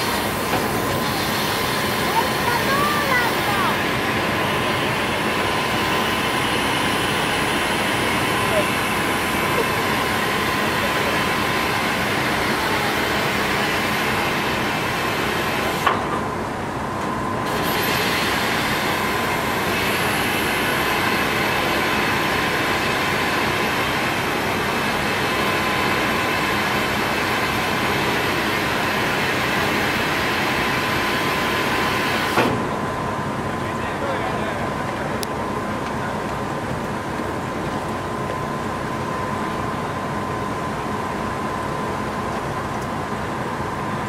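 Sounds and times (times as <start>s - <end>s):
ferry engines droning: 0.0s - 44.0s
water rushing along hull: 0.0s - 44.0s.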